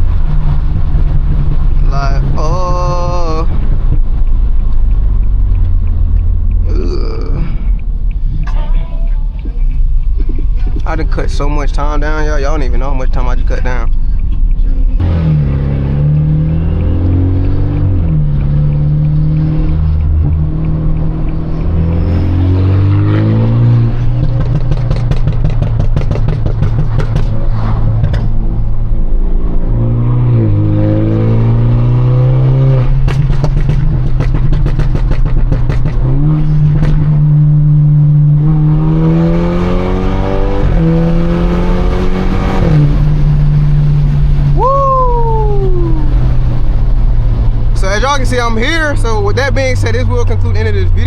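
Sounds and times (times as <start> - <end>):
car engine revving through gears: 0.0 - 13.8, 14.9 - 51.0
exhaust crackling: 0.0 - 51.0.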